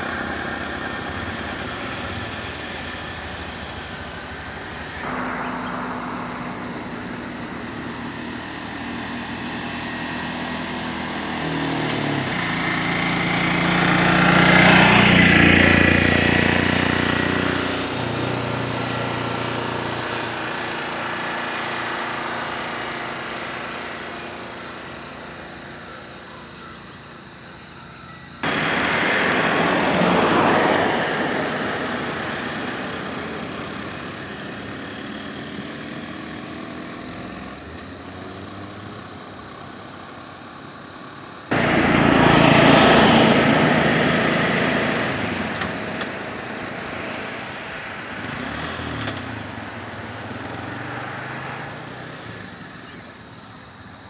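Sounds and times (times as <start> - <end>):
motor vehicle engines running: 0.0 - 54.0
vehicle passing close: 0.0 - 54.0.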